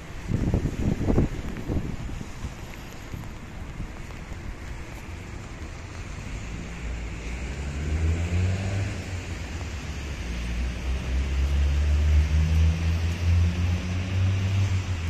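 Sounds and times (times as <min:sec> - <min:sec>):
vehicle driving by on wet road: 0:00.1 - 0:15.0.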